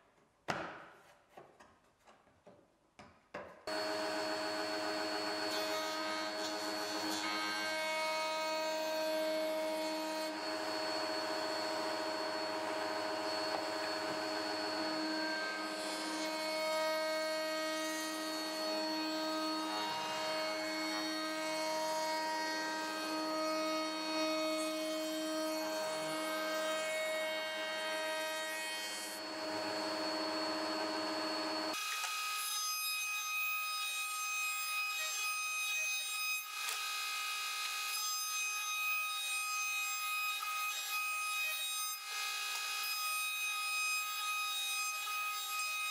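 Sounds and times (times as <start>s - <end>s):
router whining while cutting wood: 3.7s - 45.9s.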